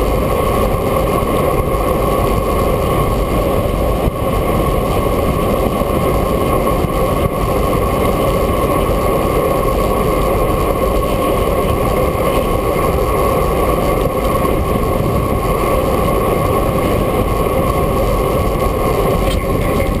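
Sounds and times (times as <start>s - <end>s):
road noise: 0.0s - 20.0s
wind rush: 0.0s - 20.0s.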